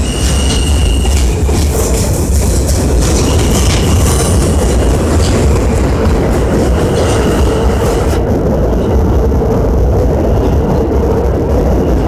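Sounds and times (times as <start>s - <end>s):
subway train rumbling past: 0.0s - 12.0s.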